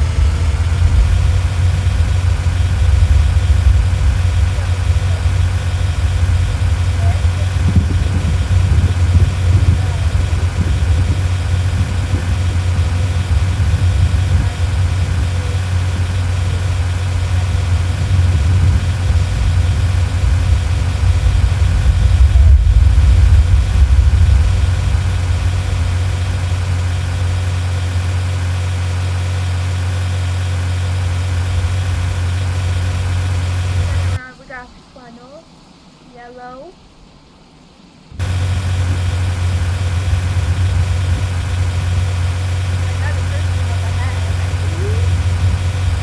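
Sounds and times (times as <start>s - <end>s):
engine low rumble: 0.0s - 35.5s, 38.0s - 46.0s.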